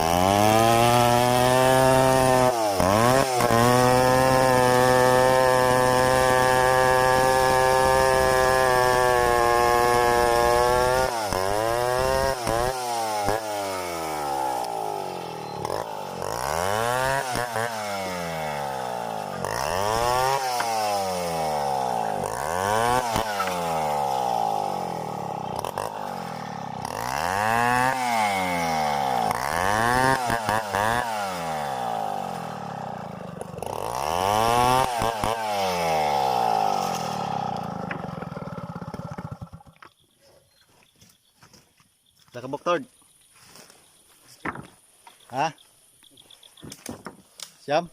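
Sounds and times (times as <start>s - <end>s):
chainsaw engine revving: 0.0s - 40.0s.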